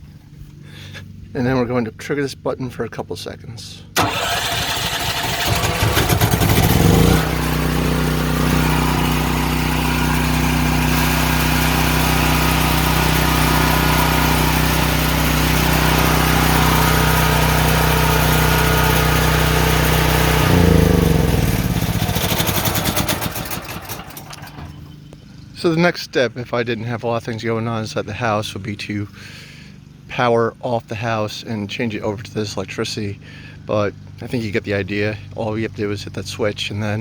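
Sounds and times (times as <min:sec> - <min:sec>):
generator engine running: 0:03.6 - 0:25.8, 0:27.2 - 0:37.0.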